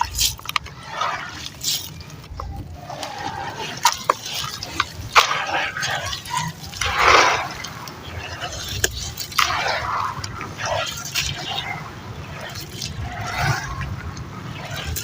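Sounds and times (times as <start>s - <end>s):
cement chunks crumbling in water: 0.0s - 15.0s
water splashing: 0.0s - 15.0s.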